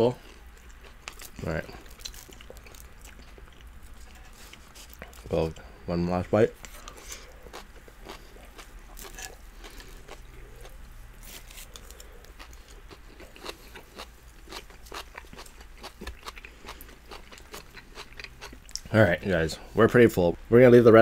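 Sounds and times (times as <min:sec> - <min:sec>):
people chewing: 0:00.1 - 0:05.6, 0:06.6 - 0:18.9.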